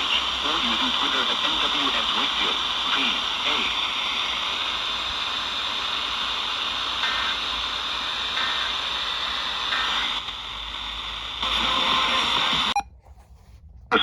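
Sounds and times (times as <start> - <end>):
radio static hiss: 0.0 - 12.8.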